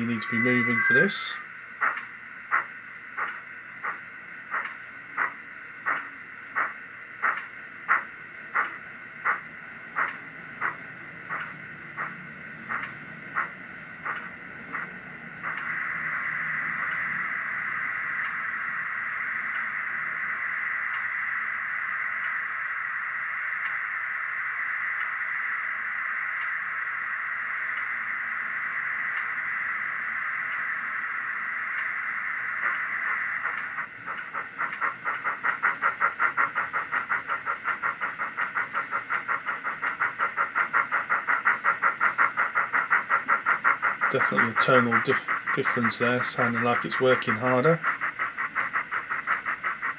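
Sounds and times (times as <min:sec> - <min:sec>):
steam exhaust chuffs: 0:00.0 - 0:21.2, 0:30.5 - 0:49.9
steam hiss from small speaker: 0:00.0 - 0:49.9.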